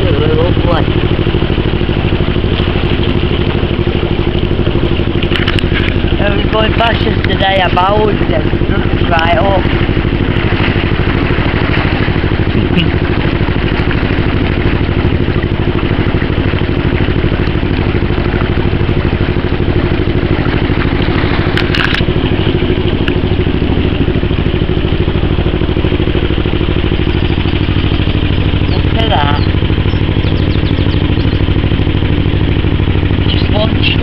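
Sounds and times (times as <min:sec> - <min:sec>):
boat engine running: 0:00.0 - 0:34.0.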